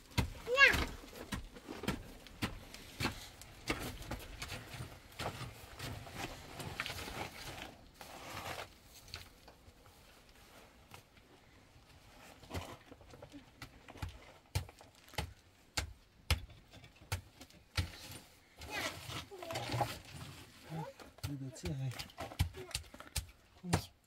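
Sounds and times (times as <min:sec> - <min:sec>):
irregular knocks and clatter: 0:00.0 - 0:07.7, 0:12.1 - 0:23.9
rustling: 0:00.5 - 0:15.4, 0:17.6 - 0:23.1.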